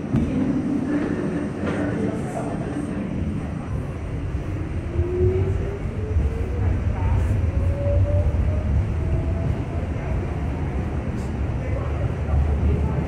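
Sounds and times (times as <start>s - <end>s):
wheels rumbling on rails: 0.0s - 13.0s.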